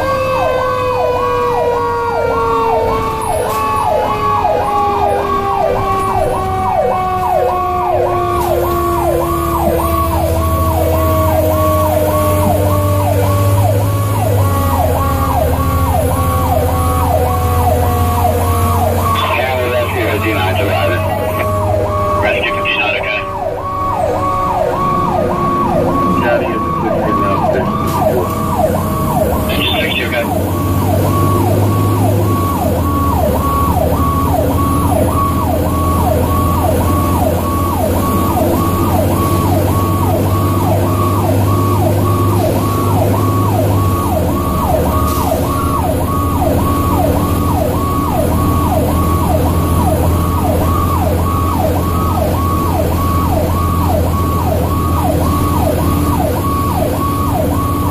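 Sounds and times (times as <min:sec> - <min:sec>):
diesel engine drone: 0:00.0 - 0:57.9
siren yelping: 0:00.0 - 0:57.9.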